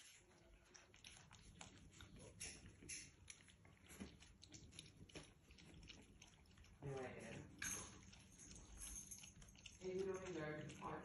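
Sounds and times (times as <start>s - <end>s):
puppies crunching dry food: 0.0s - 11.0s.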